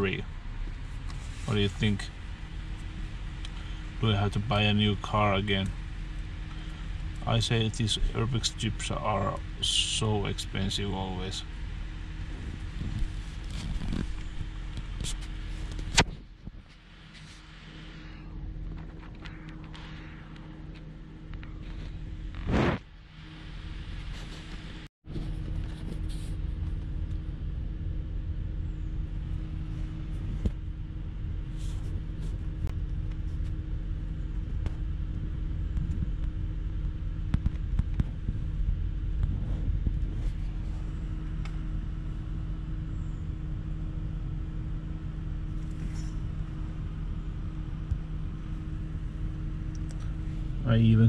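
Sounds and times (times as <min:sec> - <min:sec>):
car engine rumbling: 0:00.0 - 0:51.0.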